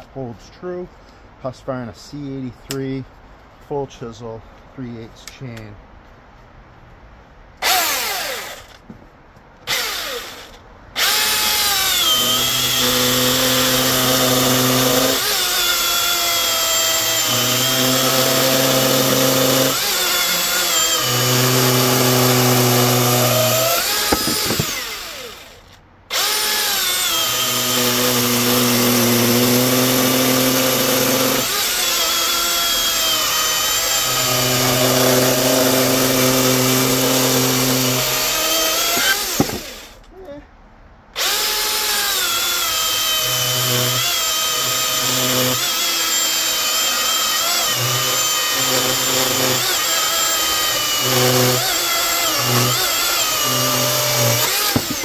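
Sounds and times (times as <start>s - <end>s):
electric chainsaw cutting wood: 7.6s - 8.8s, 9.7s - 40.0s, 41.2s - 55.0s.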